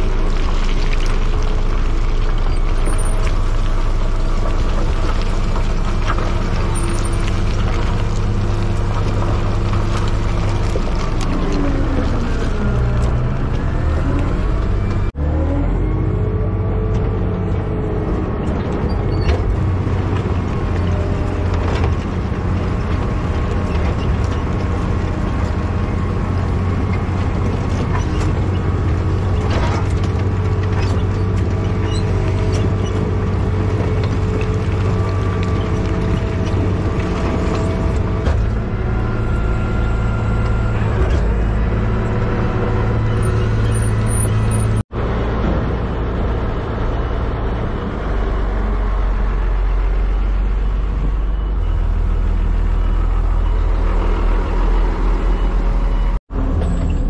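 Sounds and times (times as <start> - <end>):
heavy machine engine running: 0.0 - 57.0.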